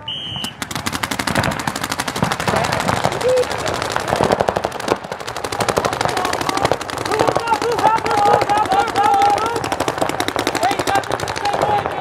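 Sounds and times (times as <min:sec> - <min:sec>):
paintball markers firing: 0:00.1 - 0:12.0.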